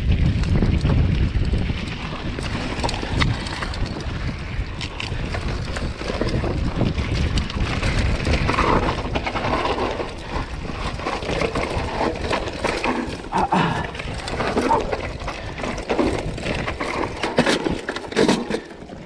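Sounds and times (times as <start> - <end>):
bike knocks and rattles: 0.0 - 19.0
wind buffeting microphone: 0.0 - 19.0
tyres crunching over loose rock: 0.1 - 19.0.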